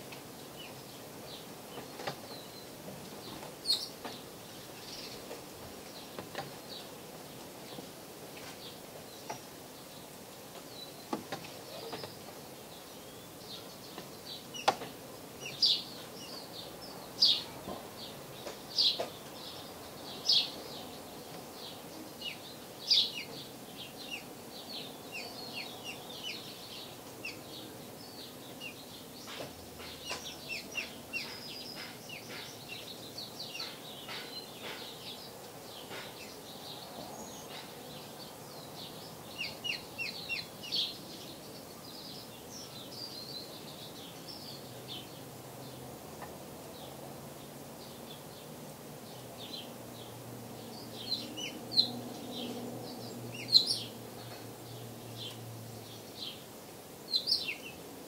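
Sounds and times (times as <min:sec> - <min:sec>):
finches chirping: 0:00.5 - 0:06.9, 0:08.4 - 0:45.2, 0:49.1 - 0:57.9.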